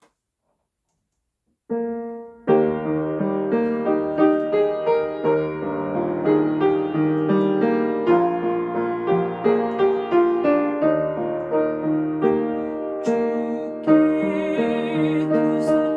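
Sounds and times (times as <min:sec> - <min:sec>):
piano hymn accompaniment: 0:01.7 - 0:15.9.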